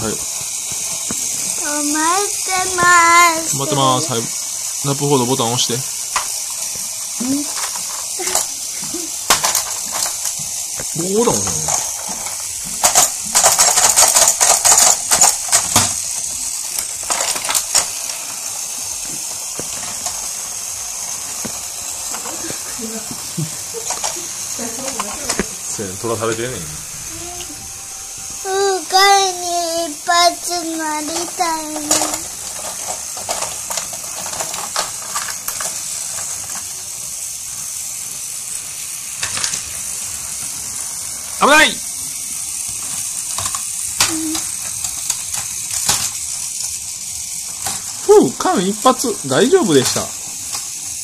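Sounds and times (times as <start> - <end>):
plastic toy pieces clicking: 0.0 - 25.4, 28.3 - 51.0.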